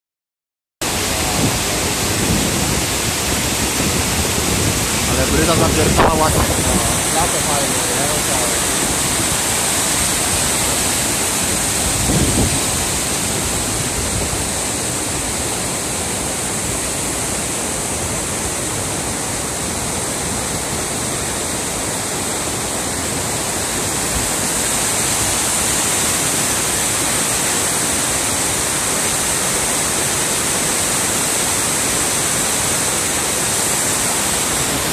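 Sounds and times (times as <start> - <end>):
waterfall and stream roaring: 0.8 - 34.9.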